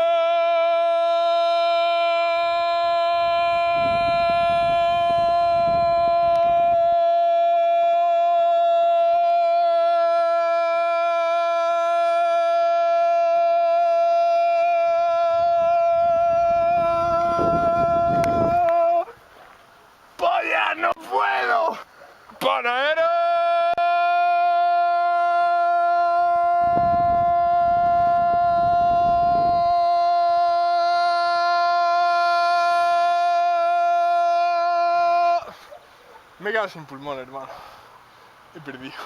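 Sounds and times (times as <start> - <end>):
man holding a long shouted note: 0.0 - 19.1, 22.6 - 35.6.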